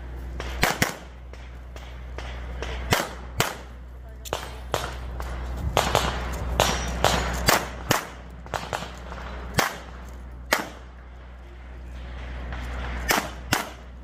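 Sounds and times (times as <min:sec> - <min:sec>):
pistol shots: 0:00.4 - 0:11.0, 0:12.5 - 0:14.0.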